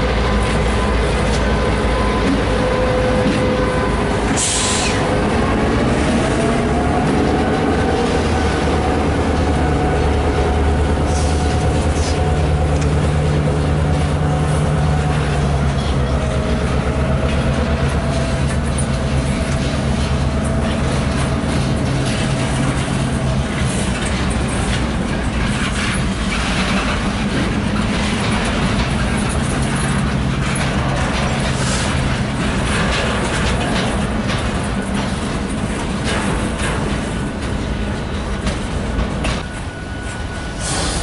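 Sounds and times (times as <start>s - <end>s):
freight cars rolling on rails: 0.0s - 41.0s.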